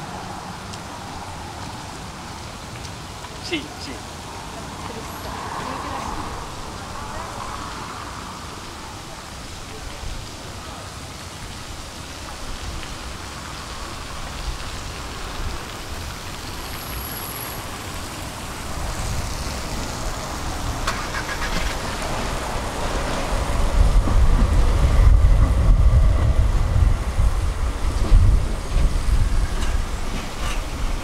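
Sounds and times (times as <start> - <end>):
tram rolling on rails: 0.0 - 31.0.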